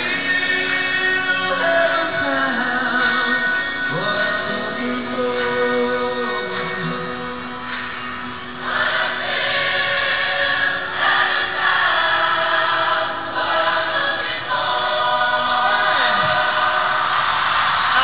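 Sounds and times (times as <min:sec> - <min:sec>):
choir-like singing music: 0:00.0 - 0:18.0.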